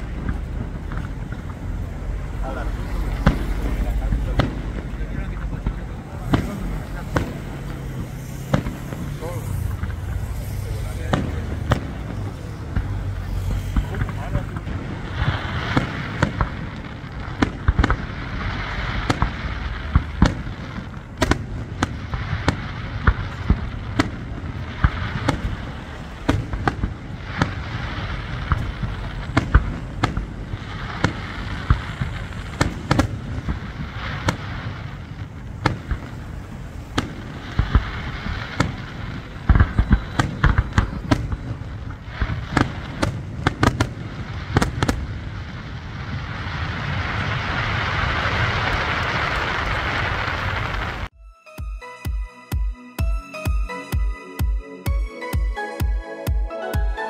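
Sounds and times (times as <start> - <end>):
fireworks crackle and hiss: 0.0 - 51.1
fireworks bursting with sharp bangs: 0.0 - 51.6.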